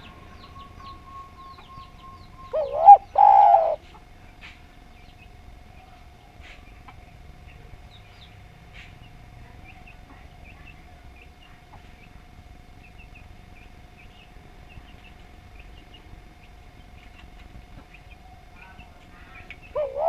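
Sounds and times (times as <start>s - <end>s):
small birds chirping: 0.0s - 20.0s
steady hum and low rumble: 0.0s - 20.0s.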